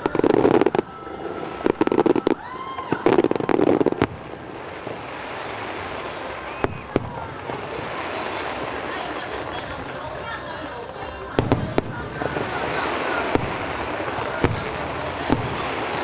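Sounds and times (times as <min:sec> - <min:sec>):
firework sharp bangs: 0:00.0 - 0:09.9, 0:11.2 - 0:16.0
whistling firework: 0:00.0 - 0:09.9, 0:10.6 - 0:16.0
fireworks bursts and crackle: 0:00.0 - 0:16.0.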